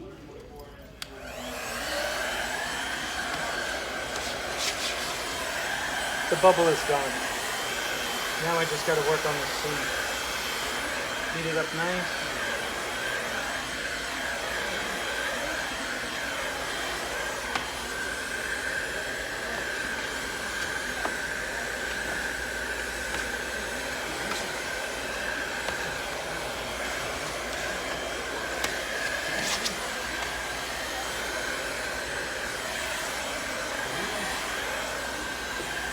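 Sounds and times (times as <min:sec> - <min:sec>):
hot-air blower whining: 0:01.0 - 0:35.9.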